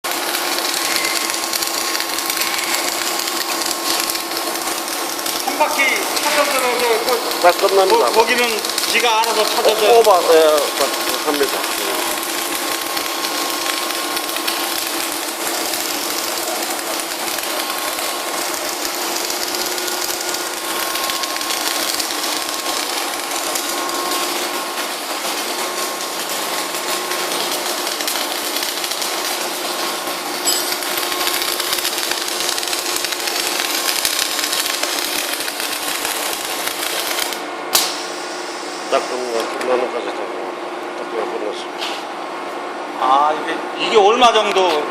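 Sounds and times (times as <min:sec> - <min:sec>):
welding arc crackling: 0:00.0 - 0:39.4.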